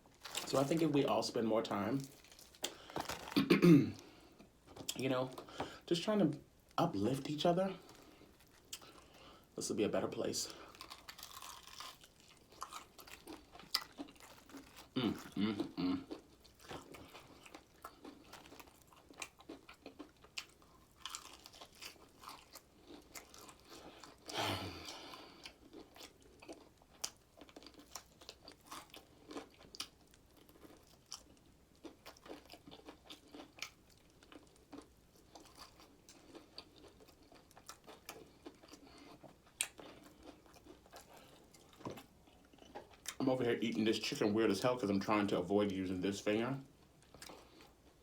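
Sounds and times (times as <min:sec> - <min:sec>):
chewing crispy chicken: 0:00.1 - 0:05.6, 0:07.2 - 0:48.0.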